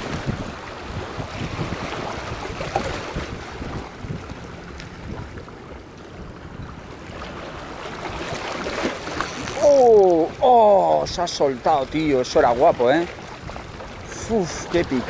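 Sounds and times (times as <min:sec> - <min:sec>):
small waves lapping against rocks: 0:00.0 - 0:15.0
wind buffeting microphone: 0:00.0 - 0:15.0.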